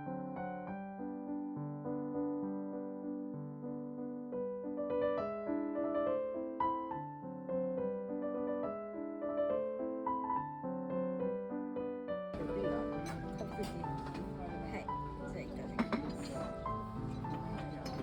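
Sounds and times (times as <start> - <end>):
piano melody over chords: 0.0 - 18.0.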